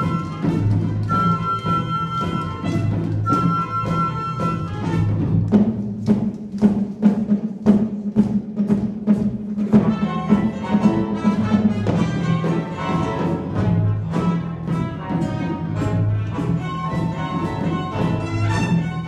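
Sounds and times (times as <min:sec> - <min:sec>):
orchestral music with steady beat: 0:00.0 - 0:19.0.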